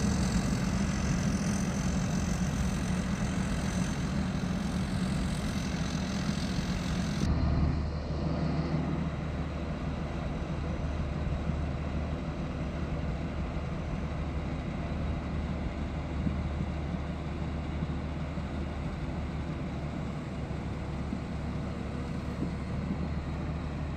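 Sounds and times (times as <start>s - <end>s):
harvester diesel engine droning: 0.0s - 23.9s.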